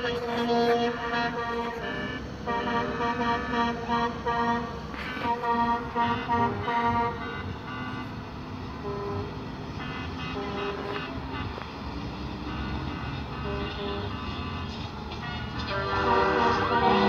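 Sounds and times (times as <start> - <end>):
low rumble of traffic: 0.0 - 17.0
truck horns honking: 0.0 - 17.0.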